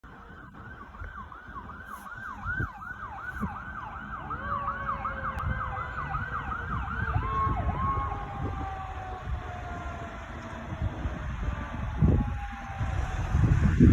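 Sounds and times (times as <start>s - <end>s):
engine rumble: 0.0s - 13.9s
fire engine siren yelping: 0.0s - 13.9s
steady siren tone falling: 0.0s - 13.9s.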